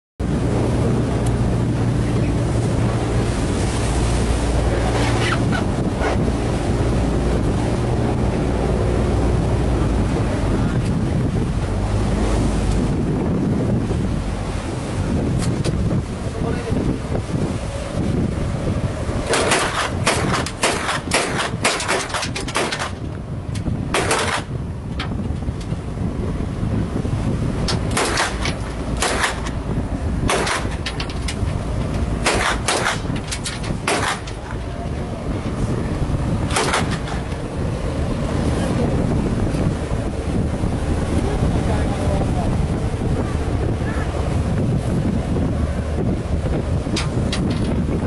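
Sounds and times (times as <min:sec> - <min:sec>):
boat engine running: 0:00.2 - 0:48.0
water rushing past hull: 0:00.2 - 0:48.0
wind buffeting microphone: 0:00.2 - 0:48.0.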